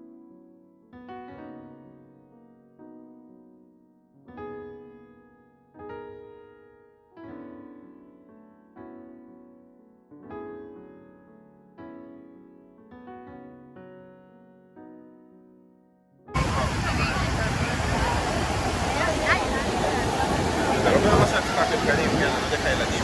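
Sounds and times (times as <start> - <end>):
soft piano chords: 0.0 - 23.0.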